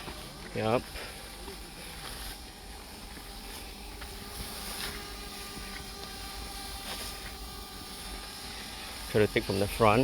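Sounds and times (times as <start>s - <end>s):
drone propellers humming: 0.0s - 10.0s
high insect-like hiss: 0.0s - 10.0s.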